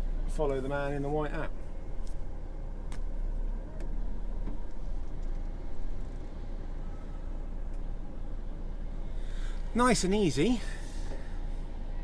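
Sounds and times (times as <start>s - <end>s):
lorry diesel engine rumble: 0.0s - 12.0s.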